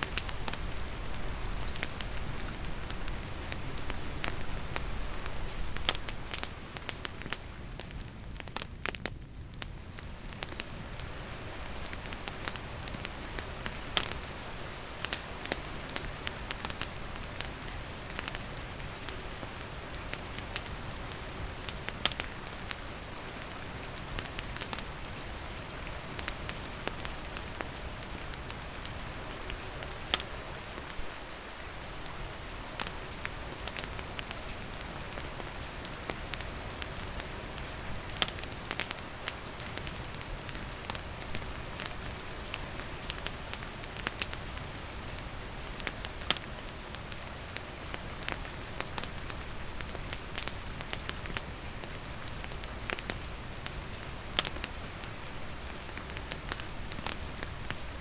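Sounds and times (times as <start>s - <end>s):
campfire crackling and popping: 0.0s - 58.0s
rain pattering: 0.0s - 58.0s.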